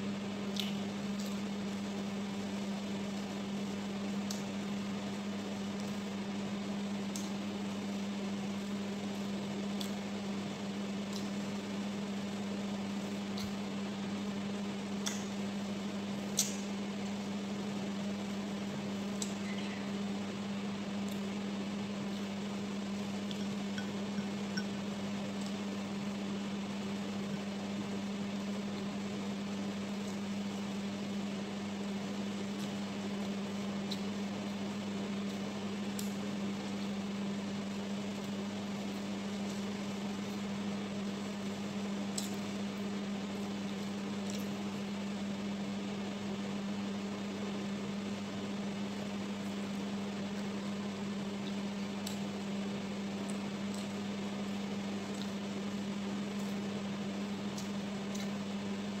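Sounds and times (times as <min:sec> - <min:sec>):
electrical appliance hum: 0:00.0 - 0:59.0.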